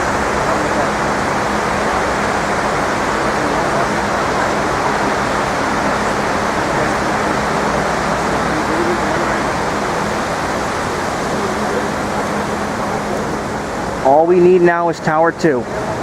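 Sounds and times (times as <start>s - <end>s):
waterfall rushing down walls: 0.0s - 16.0s.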